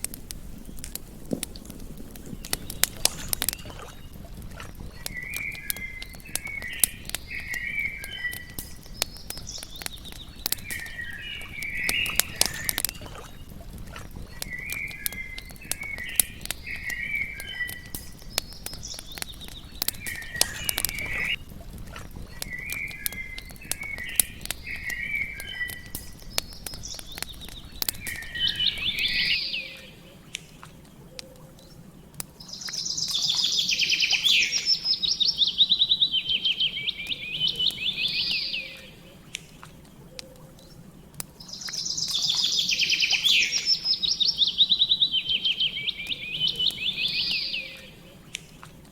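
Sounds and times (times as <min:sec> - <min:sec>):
campfire crackling: 0:00.0 - 0:48.9
songbirds chirping: 0:00.0 - 0:48.9
bird trilling: 0:02.5 - 0:30.1, 0:32.4 - 0:39.0, 0:41.4 - 0:48.0.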